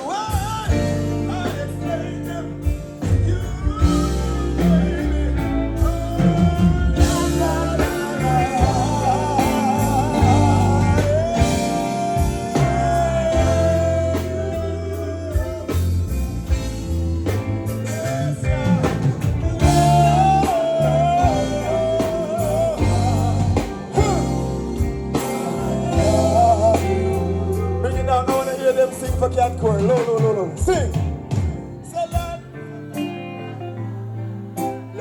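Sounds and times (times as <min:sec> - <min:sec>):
live band music: 0:00.0 - 0:35.0.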